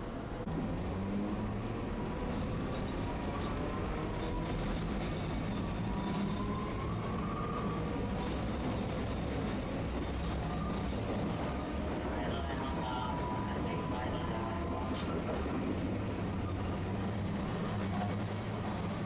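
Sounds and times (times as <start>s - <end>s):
streetcar wheels rumbling on rail: 0.0s - 19.0s.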